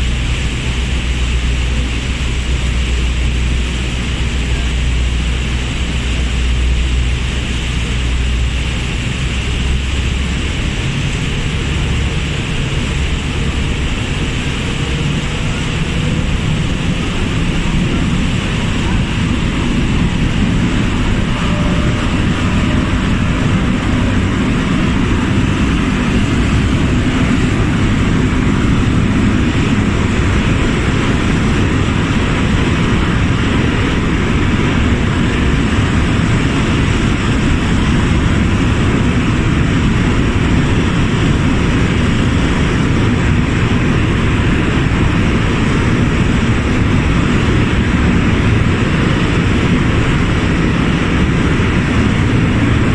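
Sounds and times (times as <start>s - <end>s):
motorboat engine running: 0.0s - 52.9s
water rushing in wake: 0.0s - 52.9s.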